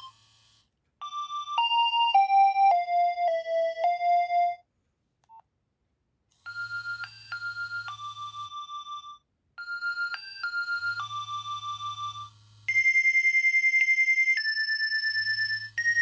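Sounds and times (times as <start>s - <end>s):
mobile phone ringtone melody: 1.0s - 4.6s, 6.5s - 16.0s.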